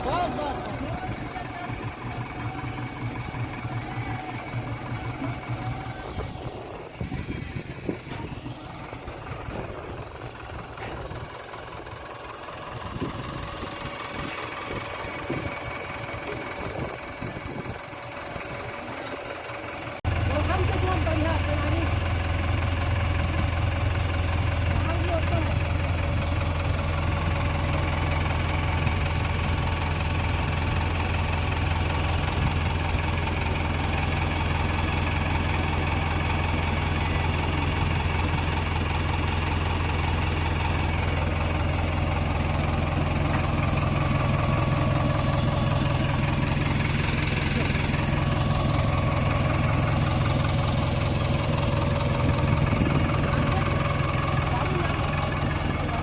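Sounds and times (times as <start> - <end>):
diesel engine running at low revs: 0.0 - 56.0.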